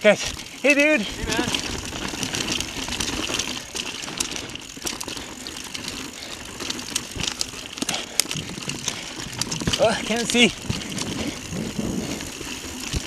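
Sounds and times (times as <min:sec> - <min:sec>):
bike clicking and rattling: 0:00.0 - 0:13.0
bike tyres rushing on dirt: 0:00.0 - 0:13.0.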